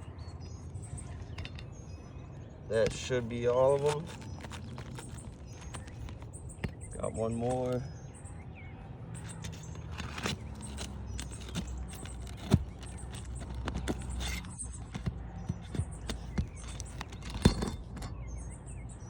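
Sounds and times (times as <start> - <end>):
metal tool scraping on shingles: 0.9 - 2.0, 2.7 - 7.9, 9.1 - 18.8.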